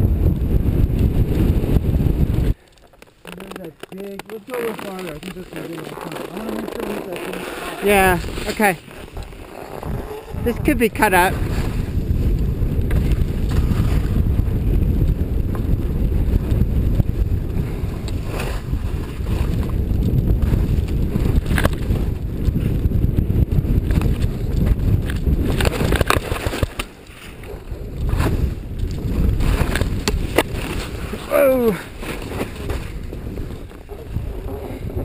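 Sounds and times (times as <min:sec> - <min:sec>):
wind rushing over microphone: 0:00.0 - 0:02.6, 0:07.5 - 0:35.0.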